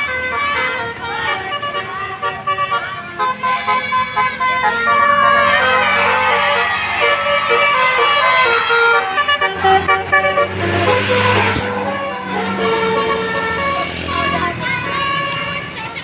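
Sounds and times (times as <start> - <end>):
multi-tone musical bus horn: 0.0 - 16.0.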